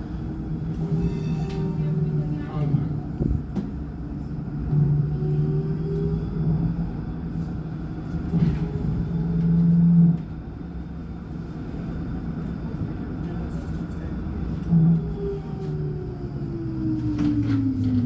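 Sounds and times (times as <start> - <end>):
tram motor hum with whine: 0.0 - 18.0.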